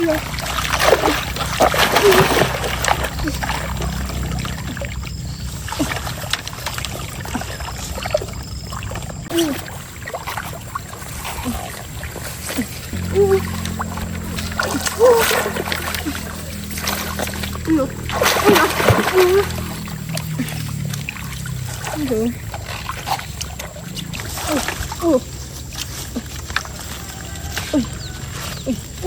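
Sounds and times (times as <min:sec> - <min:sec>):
stream water splashing: 0:00.0 - 0:29.0.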